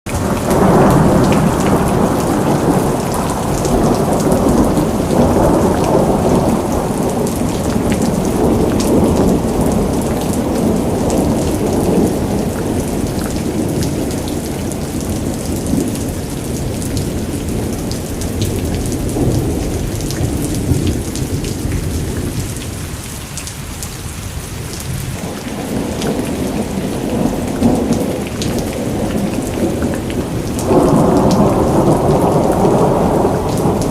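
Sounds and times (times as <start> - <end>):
rain pouring: 0.1 - 33.9.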